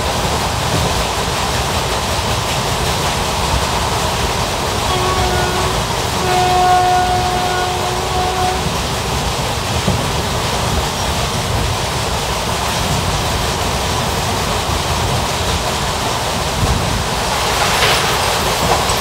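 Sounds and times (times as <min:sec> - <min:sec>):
wheels on rail rumble: 0:00.0 - 0:19.0.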